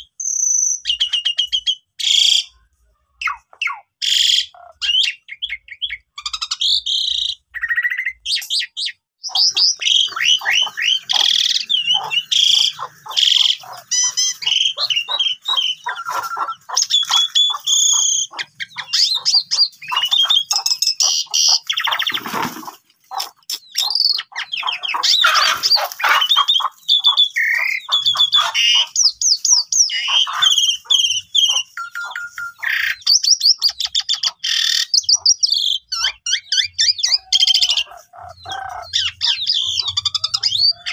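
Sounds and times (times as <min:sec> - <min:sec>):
harsh grating bird calls: 0:00.0 - 0:40.9
starling singing: 0:03.2 - 0:40.9.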